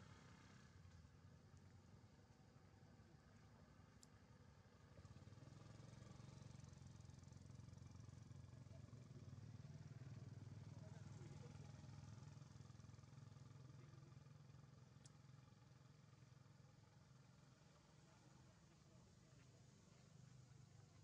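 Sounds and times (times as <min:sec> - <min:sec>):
faint low engine hum: 0:00.0 - 0:21.0.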